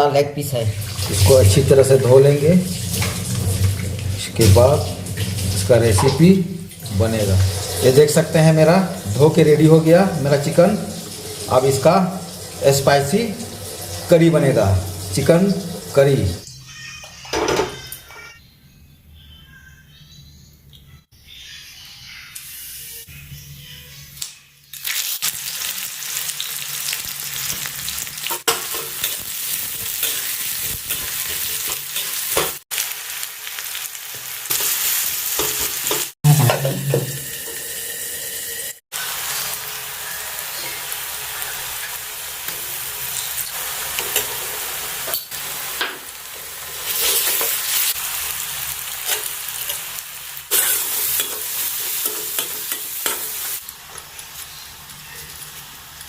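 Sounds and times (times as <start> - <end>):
food sizzling in hot oil: 0.6 - 16.4, 24.7 - 56.0.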